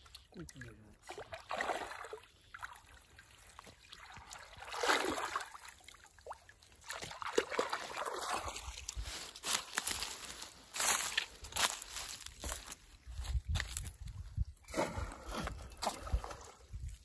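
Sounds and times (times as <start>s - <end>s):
water sloshing and splashing: 0.0s - 11.4s, 14.7s - 17.0s.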